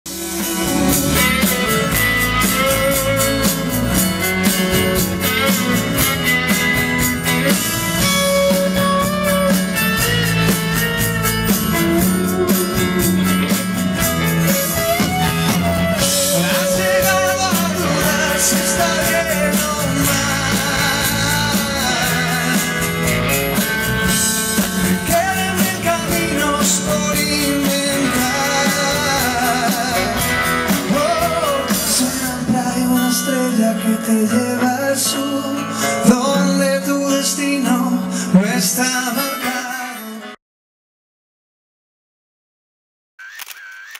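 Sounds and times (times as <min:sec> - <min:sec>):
pop-rock band playing: 0:00.0 - 0:40.4
man singing: 0:00.1 - 0:13.5, 0:15.4 - 0:40.4.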